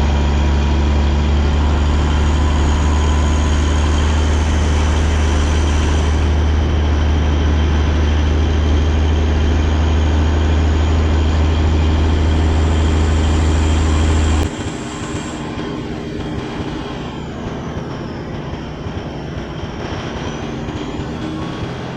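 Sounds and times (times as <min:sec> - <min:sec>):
road noise: 0:00.0 - 0:21.9
steady low rumble: 0:00.0 - 0:21.9
truck engine drone: 0:00.0 - 0:21.9.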